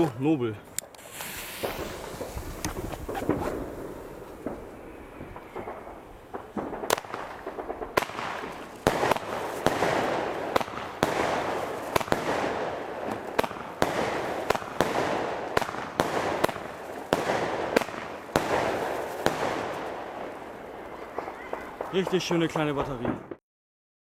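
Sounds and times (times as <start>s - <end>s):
firework shells hissing: 0.6s - 22.4s
firework bangs: 0.8s - 23.4s.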